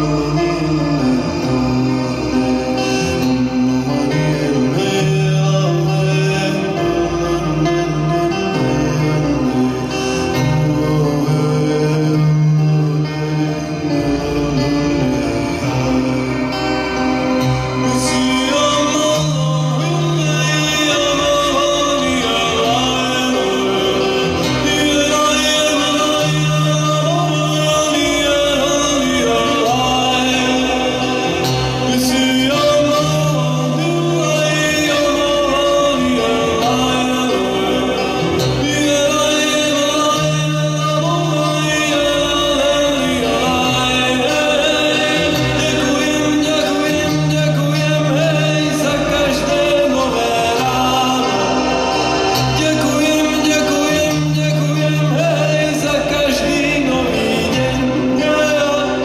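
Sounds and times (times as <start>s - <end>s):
keyboard accompaniment: 0.0s - 59.0s
man singing: 0.0s - 59.0s.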